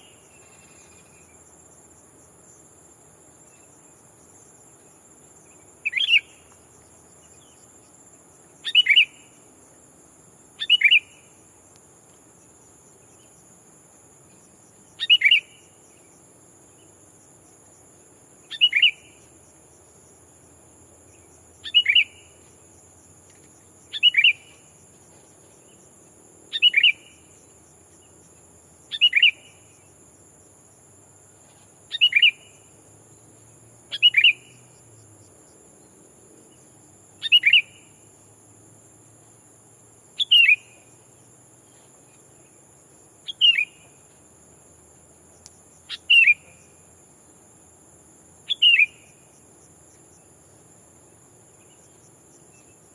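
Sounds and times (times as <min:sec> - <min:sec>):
high insect drone: 0:00.0 - 0:52.9.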